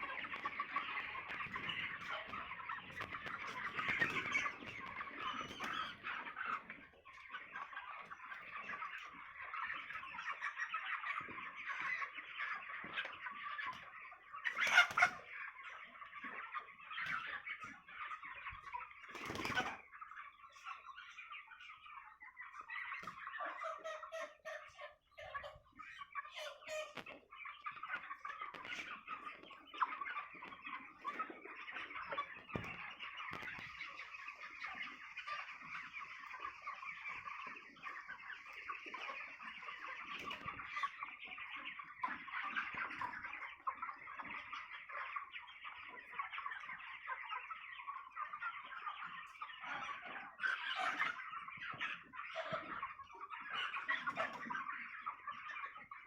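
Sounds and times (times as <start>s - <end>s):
chickens cheeping and clucking: 0.0s - 56.0s.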